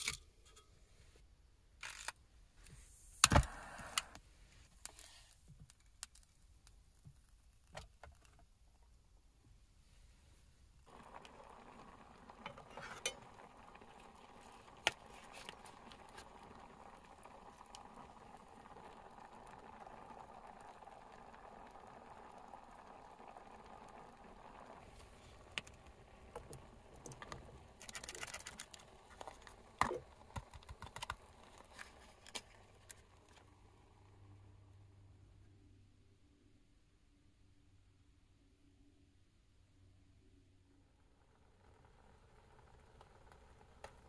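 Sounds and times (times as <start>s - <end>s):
faint steady hiss: 0.0s - 44.0s.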